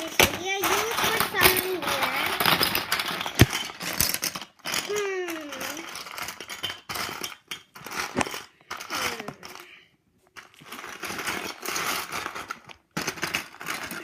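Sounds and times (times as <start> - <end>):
plastic bricks clattering: 0.0 - 14.0.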